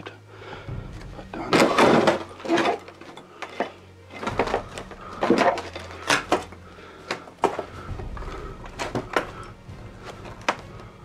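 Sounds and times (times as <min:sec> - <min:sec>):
footsteps on loose rubble: 0:00.9 - 0:11.0
stones and wood knocking: 0:01.0 - 0:10.9.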